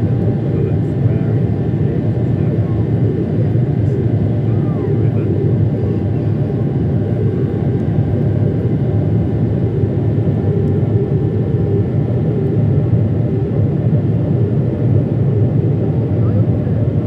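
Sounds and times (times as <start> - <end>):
jet engine cabin rumble: 0.0 - 17.0.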